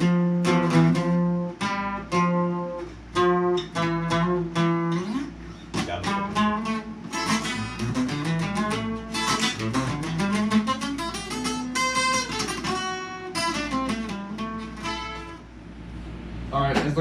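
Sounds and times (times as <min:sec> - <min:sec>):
acoustic guitar melodic runs: 0:00.0 - 0:16.4.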